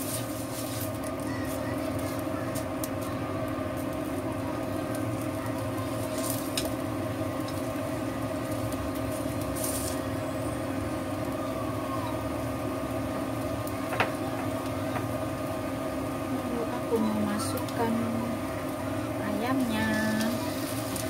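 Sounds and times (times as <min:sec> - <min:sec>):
faint frying in oil: 0:00.0 - 0:21.0
induction cooktop humming: 0:00.0 - 0:21.0.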